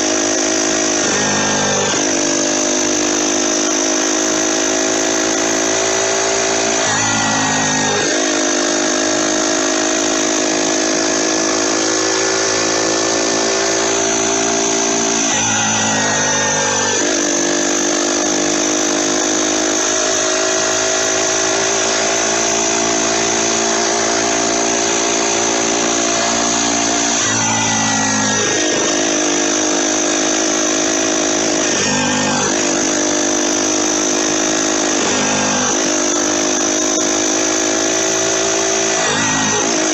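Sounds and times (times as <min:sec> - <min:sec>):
high turbo whistle: 0:00.0 - 0:39.9
motorized bicycle engine revving: 0:00.0 - 0:39.9.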